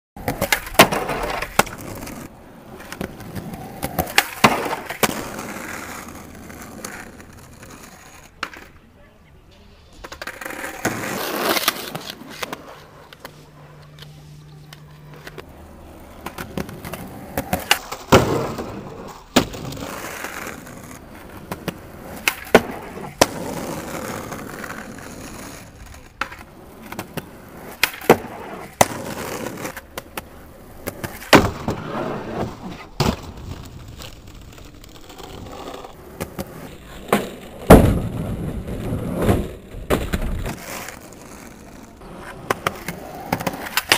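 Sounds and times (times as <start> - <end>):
skateboard grinding on wood: 0.2 - 8.7, 10.0 - 43.9
skateboard pops and clacks: 0.2 - 8.8, 16.2 - 43.9
skateboard wheels rolling on asphalt: 0.2 - 43.9.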